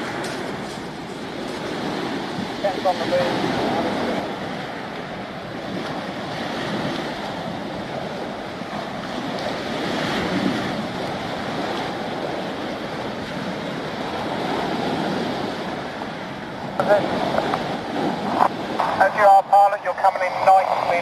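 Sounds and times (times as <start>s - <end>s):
small waves washing ashore: 0.0s - 21.0s
wind on microphone: 0.0s - 21.0s.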